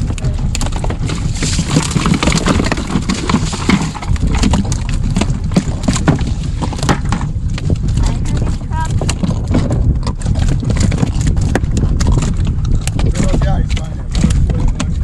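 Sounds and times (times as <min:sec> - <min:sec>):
boat engine low rumble: 0:00.0 - 0:15.0
hull slapping on waves: 0:00.0 - 0:15.0
wind buffeting microphone: 0:00.0 - 0:15.0.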